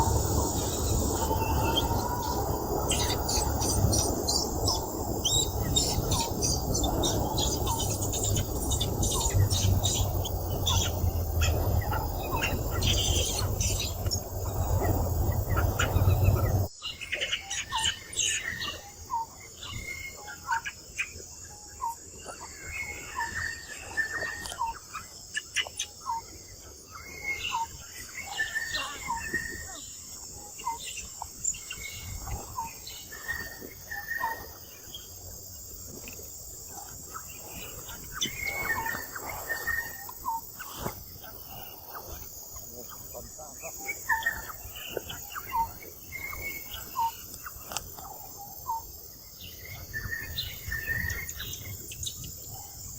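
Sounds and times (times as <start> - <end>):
insects chirring: 0.0 - 52.9.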